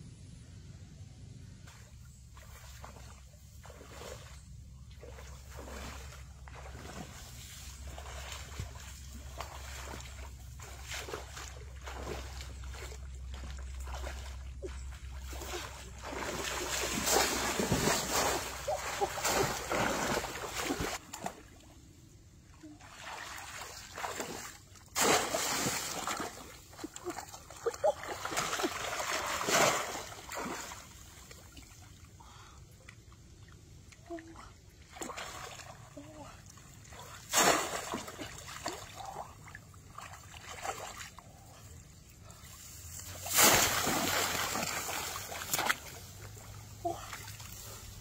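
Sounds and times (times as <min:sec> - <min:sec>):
person wading through water: 0:01.7 - 0:48.0.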